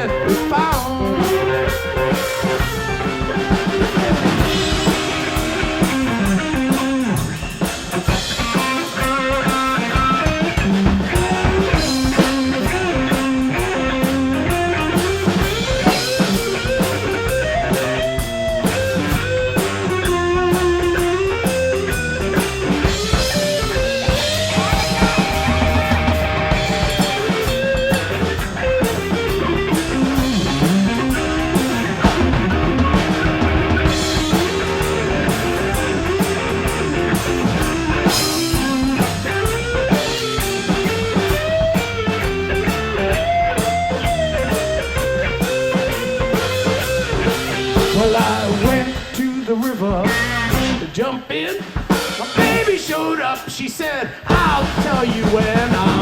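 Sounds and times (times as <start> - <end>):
lead guitar with bent notes: 0.0 - 51.1, 51.9 - 53.0, 54.3 - 56.0
bass guitar: 0.0 - 53.6, 54.2 - 56.0
drum kit: 0.0 - 56.0.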